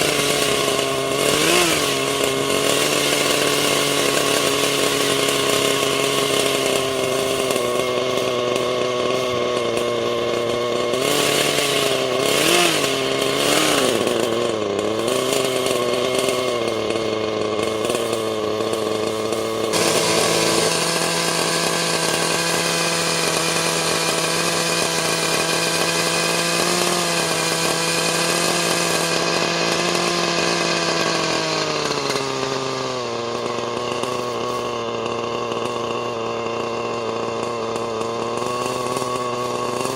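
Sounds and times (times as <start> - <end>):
model two-stroke engine running: 0.0 - 39.9.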